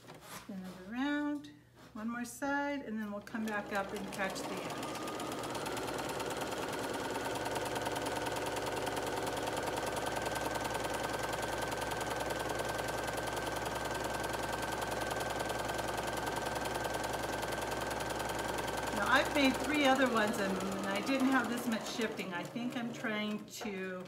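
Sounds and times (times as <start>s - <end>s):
electric sewing machine running: 3.2s - 24.0s.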